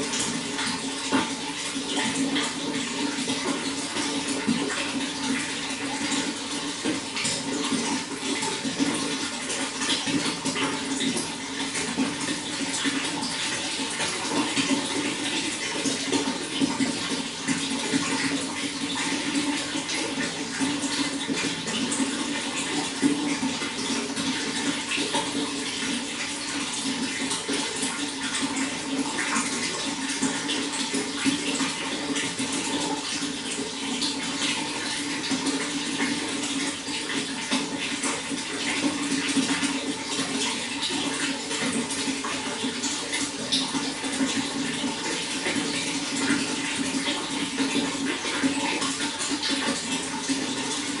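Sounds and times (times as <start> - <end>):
running water: 0.0 - 51.0.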